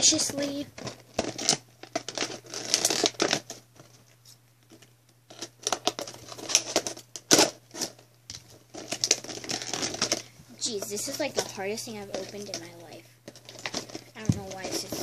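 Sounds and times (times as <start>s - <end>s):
scissors cutting plastic packaging: 0.0s - 3.5s, 5.3s - 8.0s, 8.7s - 15.0s
plastic crinkling: 0.0s - 15.0s.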